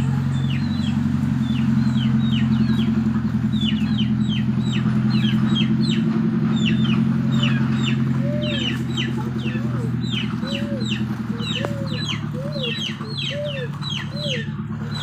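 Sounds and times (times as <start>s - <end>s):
chicks peeping: 0.0s - 15.0s
small engine running: 0.0s - 15.0s.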